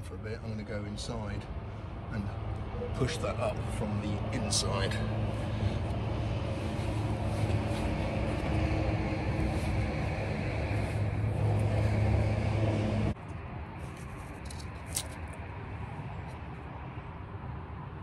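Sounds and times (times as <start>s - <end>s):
engine humming: 0.0s - 16.2s.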